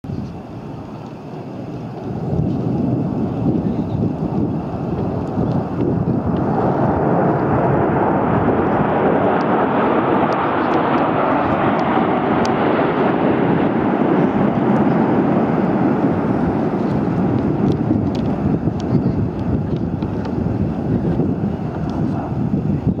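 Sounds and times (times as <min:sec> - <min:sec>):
jet fighter roar overhead: 0:00.1 - 0:23.0.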